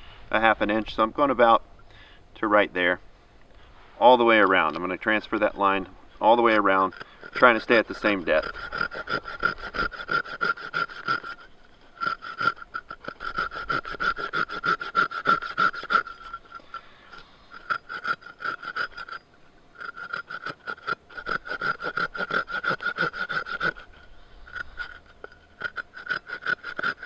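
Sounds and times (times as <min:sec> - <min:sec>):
saw rasping through wood: 0:05.3 - 0:27.0.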